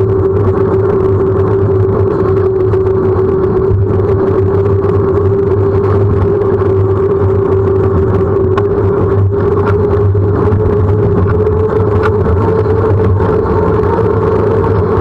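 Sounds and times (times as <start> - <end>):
bicycle tyres on asphalt: 0.0 - 15.0
steady hum: 0.0 - 15.0
wind noise: 0.0 - 15.0.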